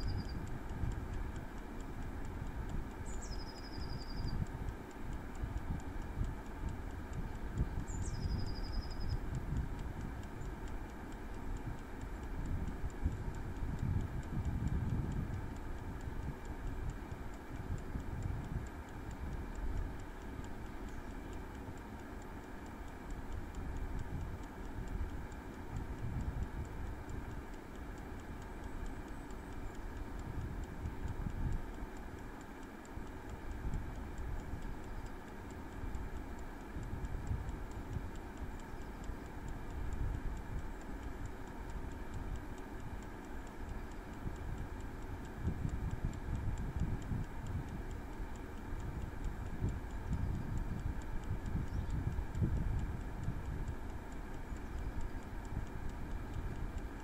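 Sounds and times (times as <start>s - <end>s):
air fryer fan humming: 0.0s - 57.0s
clockwork timer ticking: 0.0s - 57.0s.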